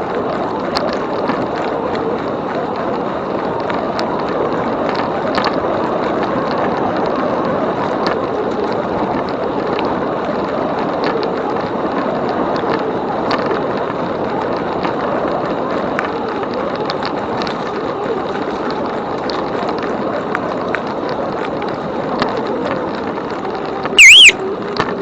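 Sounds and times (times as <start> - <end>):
tyre and wind noise: 0.0 - 25.0
wheels clicking and ticking: 0.0 - 25.0.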